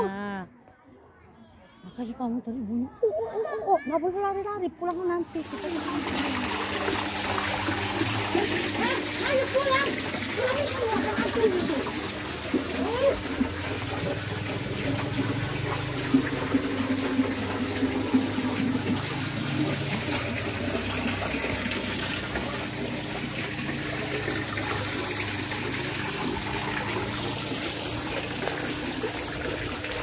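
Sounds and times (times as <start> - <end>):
water running into stone basin: 5.0 - 30.0.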